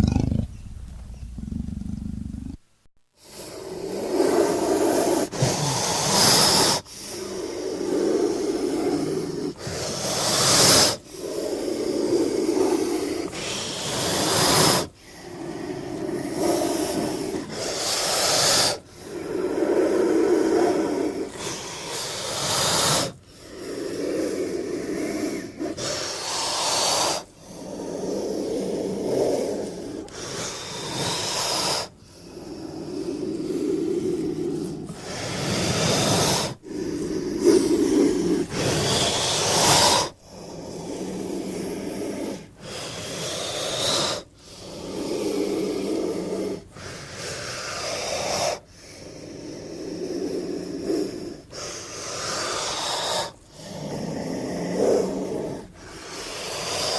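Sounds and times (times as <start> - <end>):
hissing creature breaths: 3.2 - 56.9.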